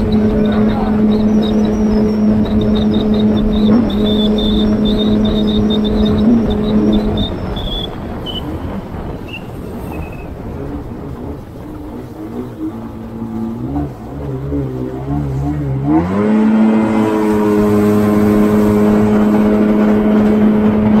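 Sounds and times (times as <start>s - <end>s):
jet ski engine running: 0.0s - 21.0s
rushing noise: 0.0s - 21.0s.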